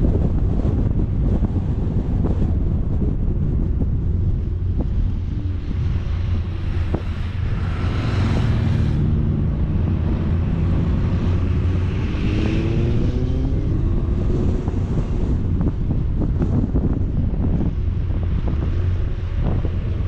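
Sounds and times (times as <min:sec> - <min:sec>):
vehicle engine: 0:00.0 - 0:20.0
wind rumble on microphone: 0:00.0 - 0:20.0.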